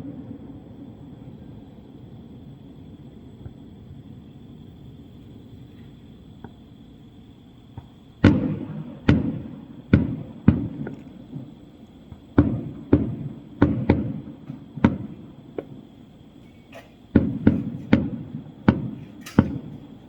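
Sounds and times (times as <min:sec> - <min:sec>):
faint high-pitched hum: 0:00.0 - 0:20.0
fireworks shells booming: 0:00.0 - 0:20.0.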